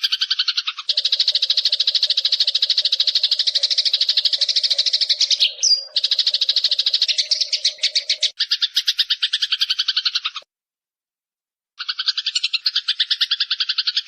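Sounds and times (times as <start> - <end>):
sparrows chattering: 0.0 - 10.5, 11.8 - 14.0.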